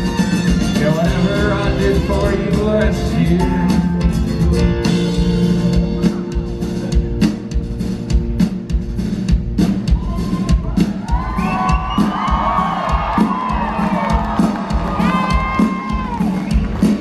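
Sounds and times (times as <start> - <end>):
drum kit pounding: 0.0 - 17.0.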